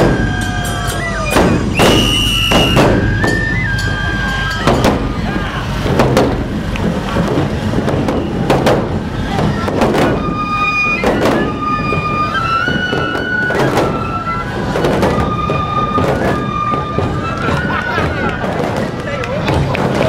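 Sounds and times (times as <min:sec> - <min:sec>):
bamboo flutes melody: 0:00.0 - 0:20.0
drum beats: 0:00.0 - 0:20.0.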